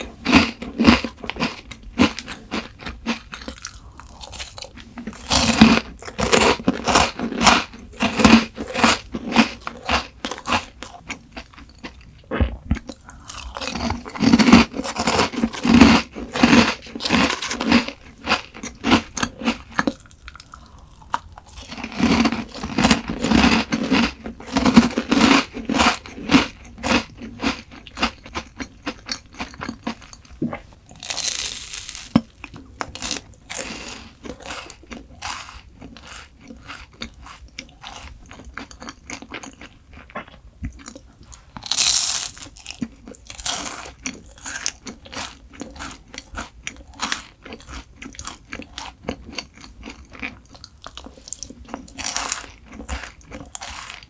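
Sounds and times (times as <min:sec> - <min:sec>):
crunching and chewing crisp food: 0:00.0 - 0:54.0.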